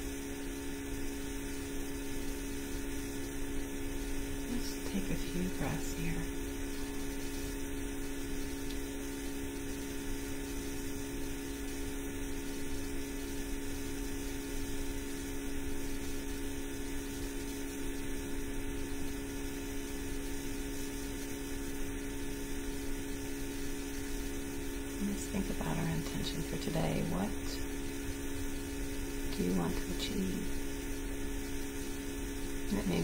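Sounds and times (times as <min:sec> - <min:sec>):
electrical hum: 0:00.0 - 0:33.0
even hiss: 0:00.0 - 0:33.0.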